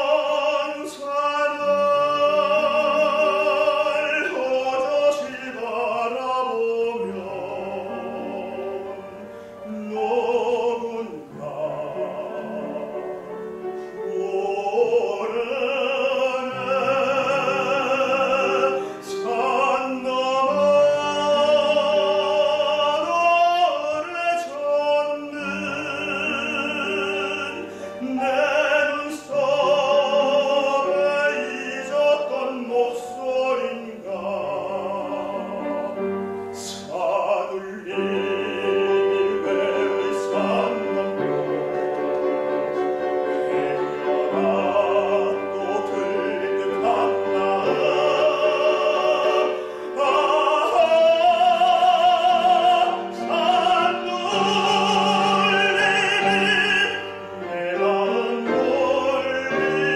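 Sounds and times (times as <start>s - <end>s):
instrumental accompaniment: 0.0s - 59.9s
man singing operatic tenor: 0.0s - 59.9s.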